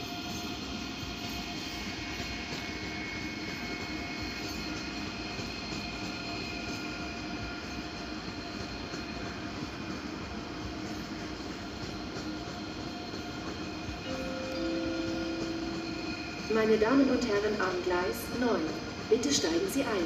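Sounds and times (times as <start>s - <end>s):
train equipment humming: 0.4s - 20.0s.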